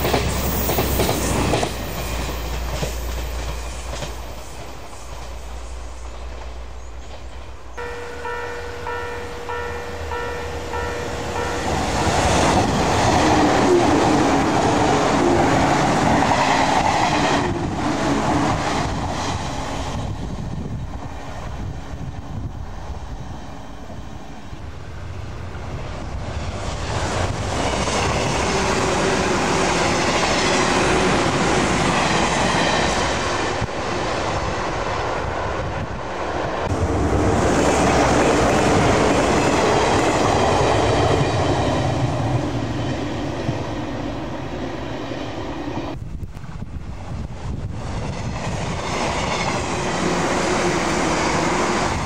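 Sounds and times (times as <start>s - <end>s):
electric train passing: 0.0s - 52.0s
train wheels on rails: 0.0s - 52.0s.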